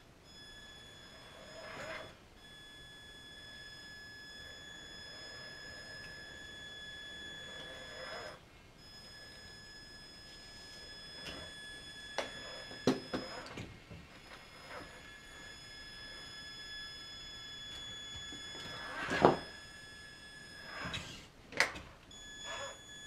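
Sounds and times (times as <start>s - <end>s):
high-pitched electric motor whine: 0.0s - 23.0s.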